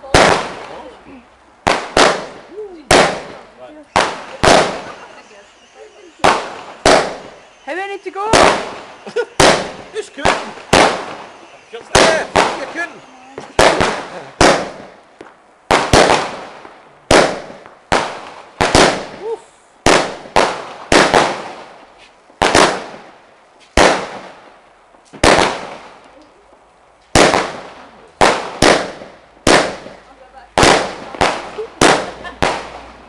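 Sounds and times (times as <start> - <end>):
fireworks bangs echoing: 0.0 - 26.1, 27.0 - 33.0.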